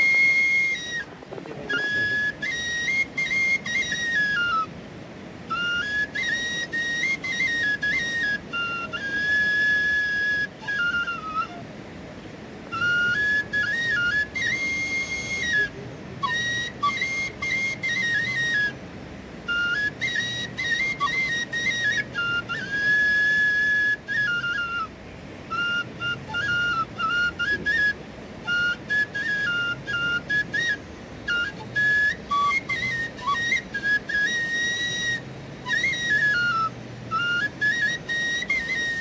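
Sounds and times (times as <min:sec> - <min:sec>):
bamboo flute melody: 0:00.0 - 0:39.0.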